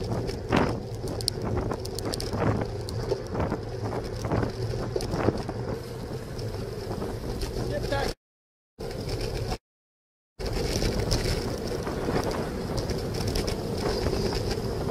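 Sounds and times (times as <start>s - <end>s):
wind gusting over microphone: 0.0s - 8.2s, 10.4s - 14.9s.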